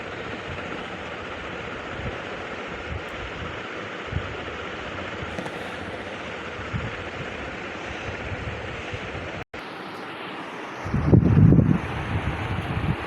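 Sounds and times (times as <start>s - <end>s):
ceiling fan running: 0.0s - 13.0s.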